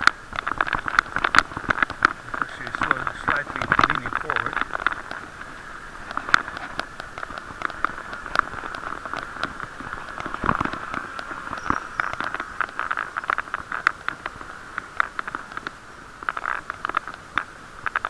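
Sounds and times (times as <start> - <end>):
muffled riding noise hiss: 0.0 - 18.0.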